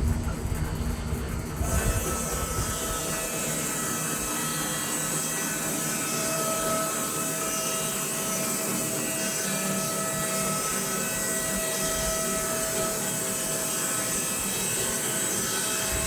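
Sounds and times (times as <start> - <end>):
bandsaw mill running: 0.0 - 16.0.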